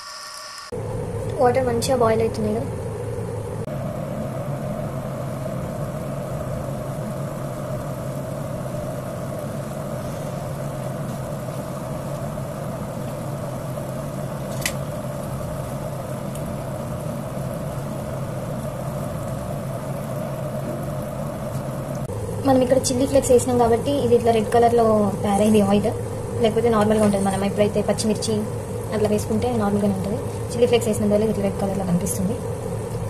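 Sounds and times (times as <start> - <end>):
low hum: 0.0 - 33.0
water boiling in kettle: 0.0 - 33.0.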